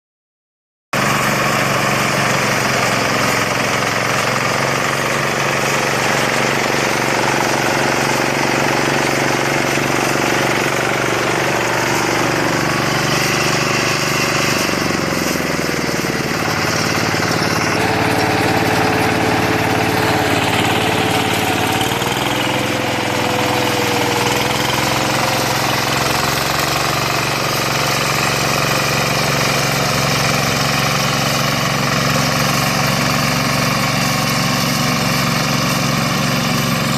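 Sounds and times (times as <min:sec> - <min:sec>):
harvester engine and machinery: 0:01.0 - 0:36.9.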